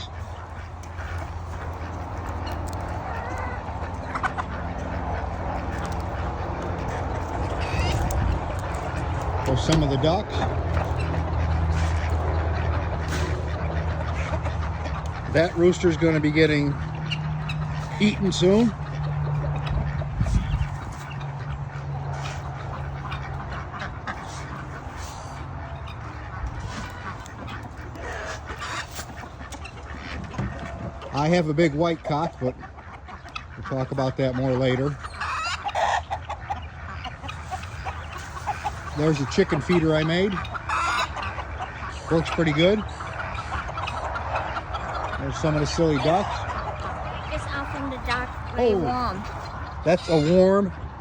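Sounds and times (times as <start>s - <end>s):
ducks quacking: 0.0s - 51.0s
poultry calling faintly: 0.0s - 51.0s.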